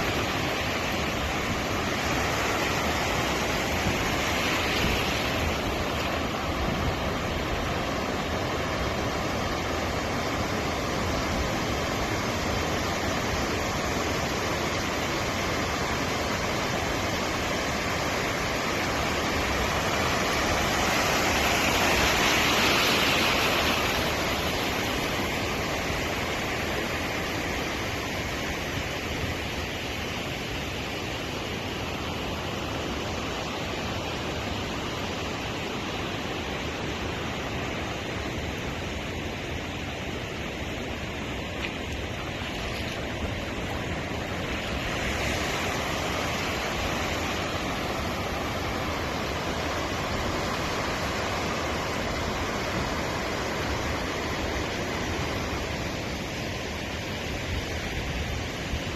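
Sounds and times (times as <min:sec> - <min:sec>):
sea surf waves: 0:00.0 - 0:58.9.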